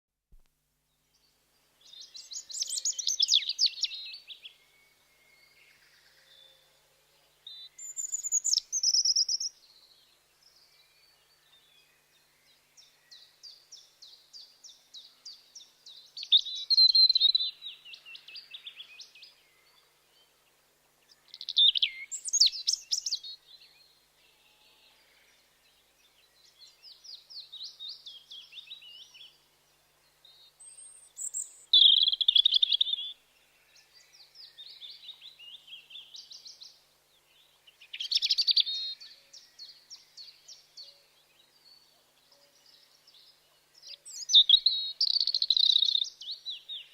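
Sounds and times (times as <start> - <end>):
robin singing: 1.0 - 46.9.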